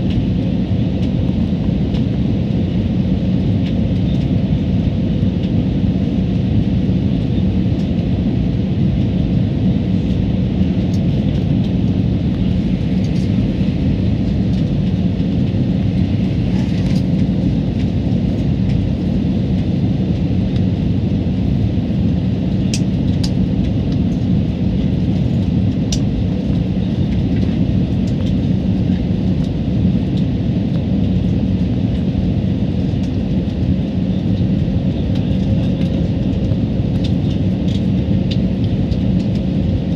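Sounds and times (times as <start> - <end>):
jet engines and airflow rushing: 0.0 - 39.9
low hum: 0.0 - 39.9.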